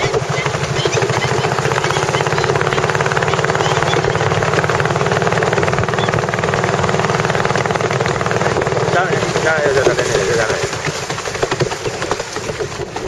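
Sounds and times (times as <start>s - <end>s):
motorboat engine chugging: 0.0s - 13.0s.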